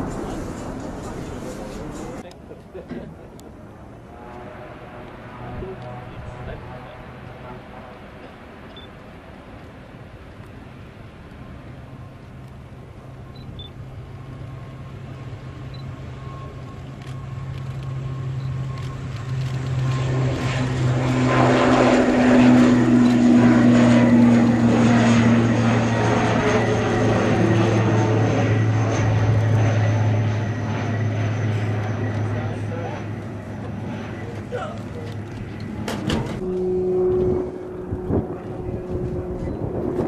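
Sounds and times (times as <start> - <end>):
turboprop aircraft engines drone: 0.0 - 40.0.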